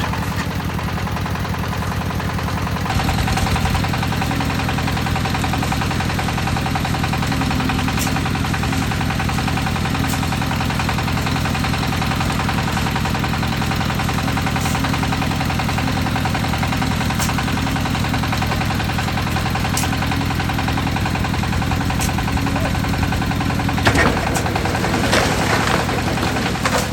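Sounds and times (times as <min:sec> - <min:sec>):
concrete mixer engine chugging: 0:00.0 - 0:26.9.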